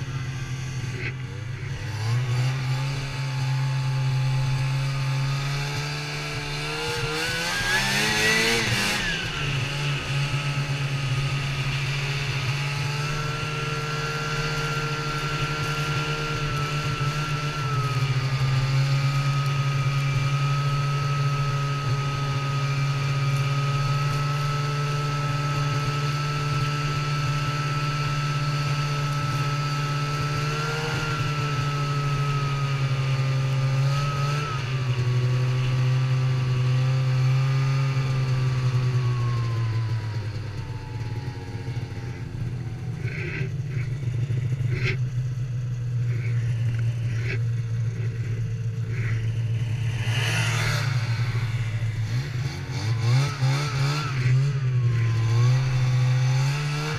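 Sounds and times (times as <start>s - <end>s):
snowmobile engine running: 0.0s - 56.9s.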